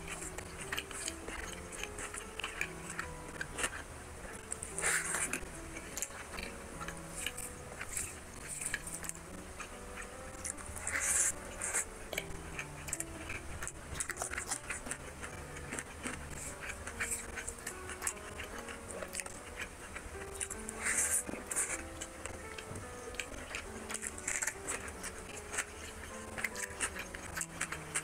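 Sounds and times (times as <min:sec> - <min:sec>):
soft background music: 0:00.0 - 0:28.0
chewing and wet mouth clicks: 0:00.1 - 0:28.0.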